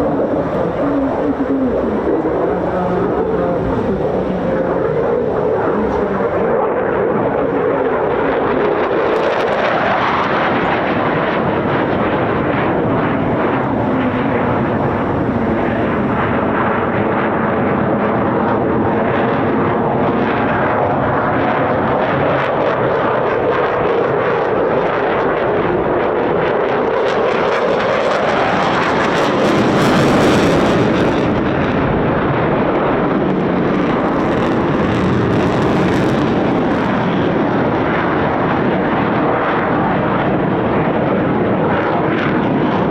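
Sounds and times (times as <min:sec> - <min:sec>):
jet engine roar: 0:00.0 - 0:42.9.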